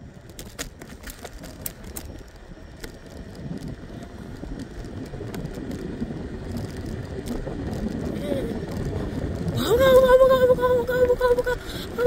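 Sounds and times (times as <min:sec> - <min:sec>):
road noise: 0:00.0 - 0:12.0
wind rumbling on microphone: 0:00.0 - 0:12.0
light clicks and rattles: 0:00.2 - 0:12.0.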